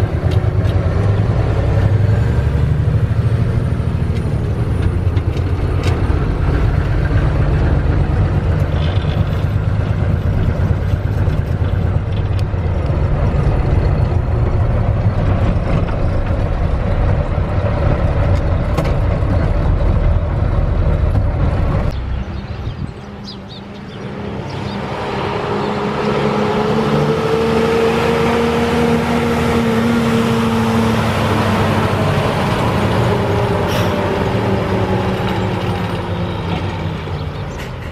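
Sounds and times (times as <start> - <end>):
truck diesel engine droning: 0.0 - 37.9
truck driving by: 0.0 - 37.9.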